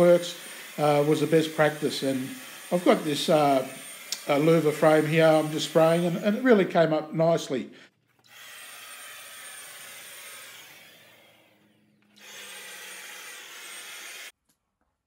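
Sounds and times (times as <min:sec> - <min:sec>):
paint spray gun whining: 0:00.0 - 0:06.9, 0:07.9 - 0:14.4.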